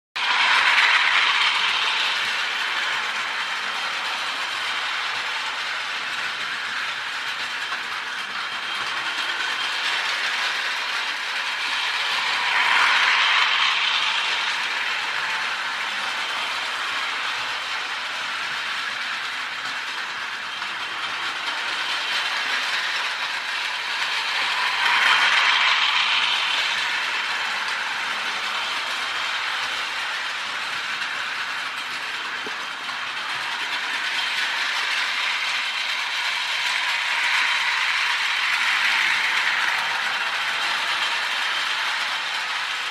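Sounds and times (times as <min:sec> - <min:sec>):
toy train motor whirring: 0:00.2 - 0:42.9.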